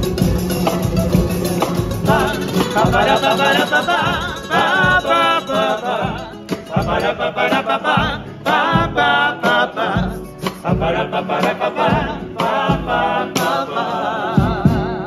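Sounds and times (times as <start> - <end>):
men singing in chorus: 0.0 - 15.0.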